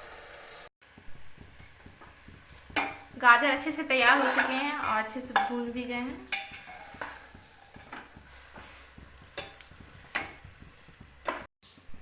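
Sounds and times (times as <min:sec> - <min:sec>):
mixture sizzling in ghee: 0:00.0 - 0:12.0
spoon scraping a pot: 0:01.6 - 0:11.8.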